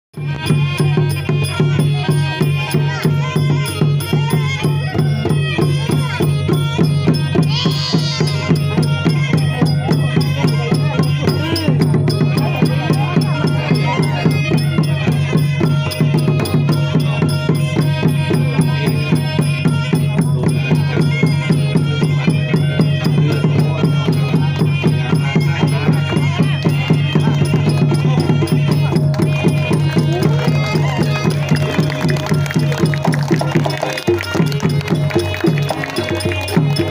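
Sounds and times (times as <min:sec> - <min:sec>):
fast dense percussion: 0:00.2 - 0:36.9.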